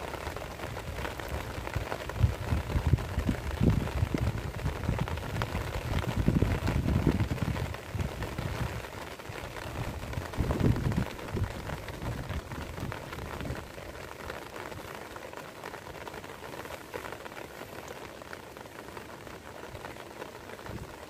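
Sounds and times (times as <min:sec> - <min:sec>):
rain falling on grass and water: 0:00.0 - 0:21.0.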